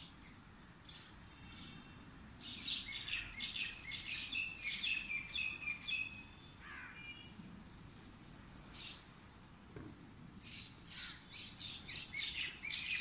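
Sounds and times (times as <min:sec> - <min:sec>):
songbird chirping: 0:00.0 - 0:13.0.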